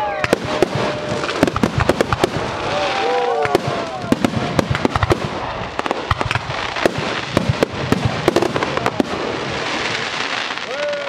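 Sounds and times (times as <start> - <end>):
fireworks bangs: 0.0 - 11.0
fireworks crackling hiss: 0.0 - 11.0.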